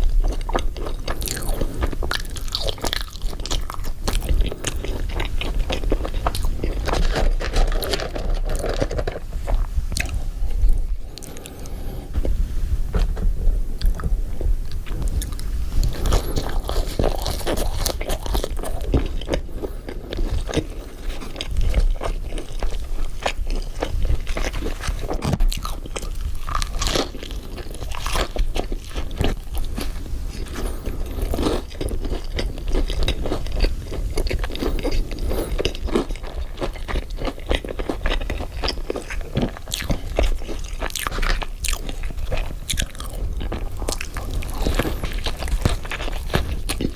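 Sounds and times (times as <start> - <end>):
crunchy chewing of food: 0.0 - 46.9.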